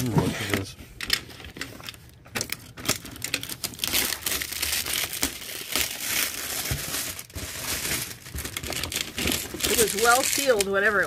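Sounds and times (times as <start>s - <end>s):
shrink wrap crinkling: 1.0s - 11.0s.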